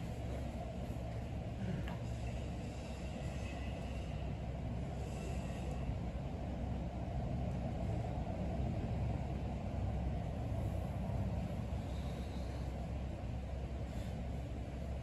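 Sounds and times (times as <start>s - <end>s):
low rumble of background noise: 0.0s - 15.0s.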